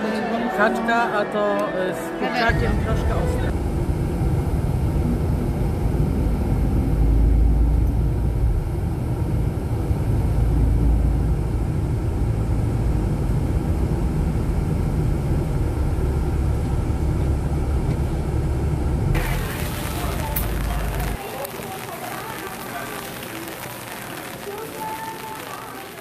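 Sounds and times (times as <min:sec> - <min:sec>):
low city rumble: 0:02.5 - 0:26.0.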